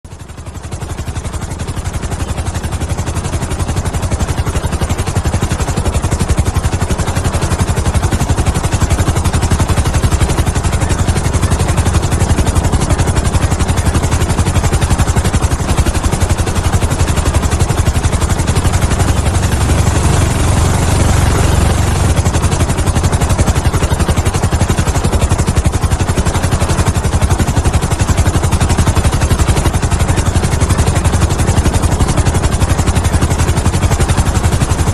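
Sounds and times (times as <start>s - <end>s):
helicopter rotor chop: 0.1s - 34.9s.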